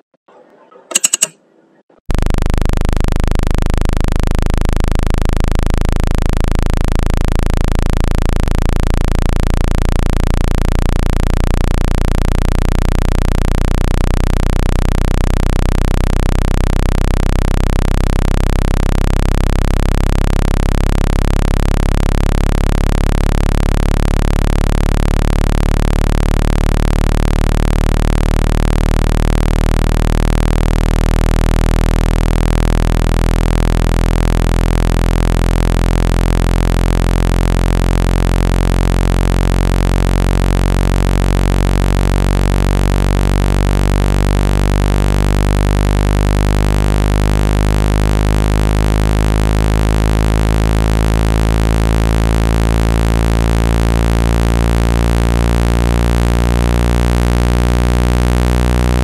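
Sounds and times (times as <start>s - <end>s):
low electronic buzz tone: 0.9s - 1.4s, 2.1s - 59.0s.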